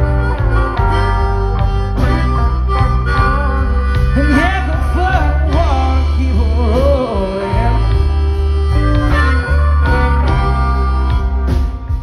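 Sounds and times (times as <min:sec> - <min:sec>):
bass line: 0:00.0 - 0:12.0
electric guitar: 0:00.0 - 0:12.0
harmonica with bent notes: 0:00.0 - 0:12.0.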